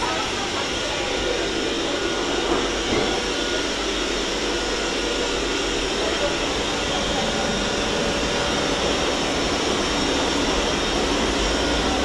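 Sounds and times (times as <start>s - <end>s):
electric train hum and hiss: 0.0s - 12.0s.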